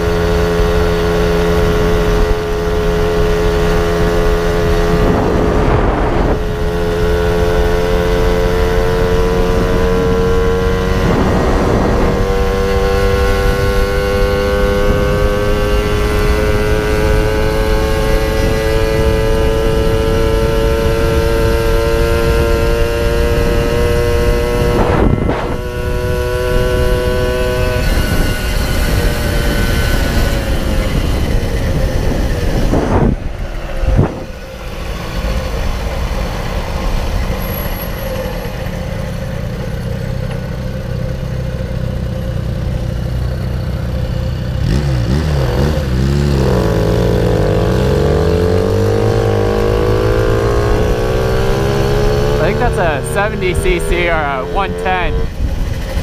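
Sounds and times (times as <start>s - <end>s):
wind noise: 0.0s - 37.8s, 46.6s - 56.0s
two-stroke moped engine: 0.0s - 56.0s.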